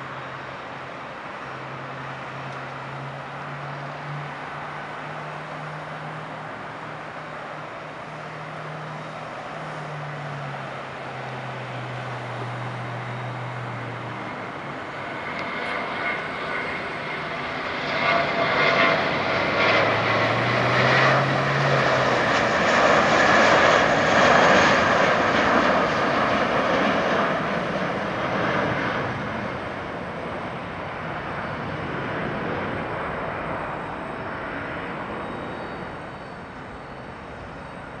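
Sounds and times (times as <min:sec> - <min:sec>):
jet airliner taking off: 0:00.0 - 0:38.0.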